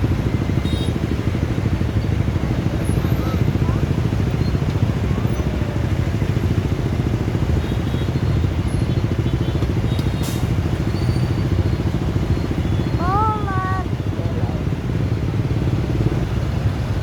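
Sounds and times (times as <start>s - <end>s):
motorbike engines rumbling: 0.0s - 17.0s.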